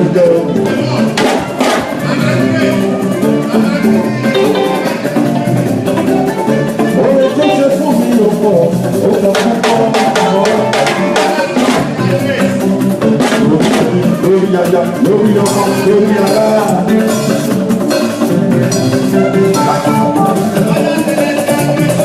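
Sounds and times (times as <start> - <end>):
drum kit and percussion: 0.0 - 22.0
live band music: 0.0 - 22.0
sharp percussion strikes: 0.0 - 22.0.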